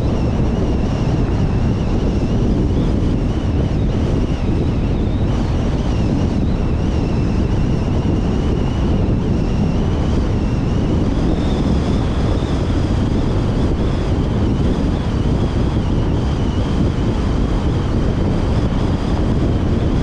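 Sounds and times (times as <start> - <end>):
faint high whine: 0.0 - 20.0
tyre and wind road rumble: 0.0 - 20.0
wind buffeting microphone: 0.0 - 20.0.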